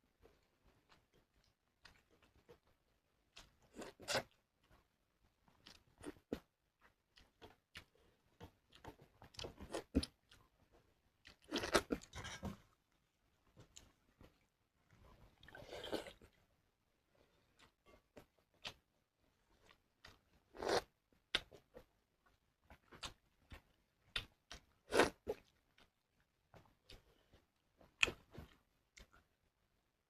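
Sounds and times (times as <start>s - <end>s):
person chewing food: 0.1s - 29.4s.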